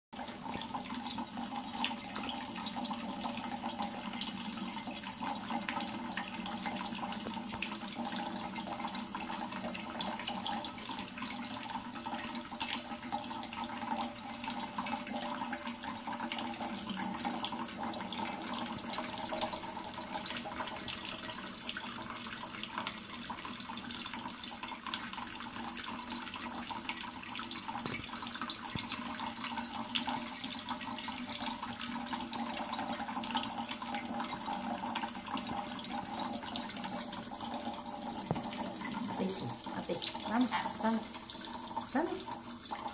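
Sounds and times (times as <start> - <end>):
faucet stream splashing on plate: 0.2 - 42.9.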